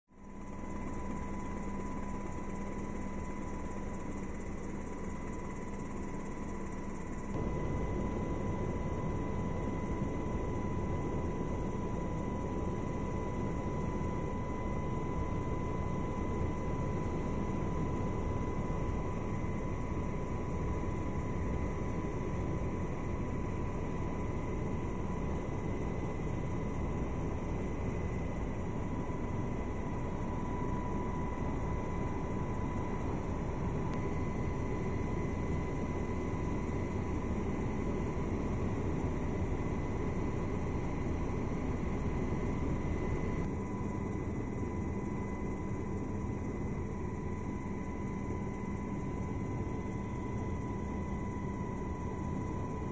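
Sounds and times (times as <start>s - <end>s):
helicopter engine and rotor noise: 0.1s - 52.9s
high-pitched whine: 0.1s - 52.9s
low steady hum: 0.1s - 52.9s.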